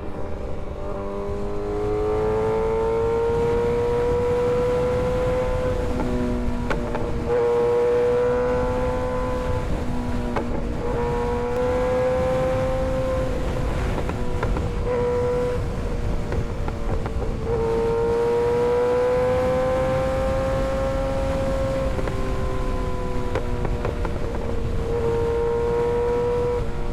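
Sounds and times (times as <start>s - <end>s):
motorcycle engine revving: 0.0s - 26.9s
wind rush: 0.0s - 26.9s.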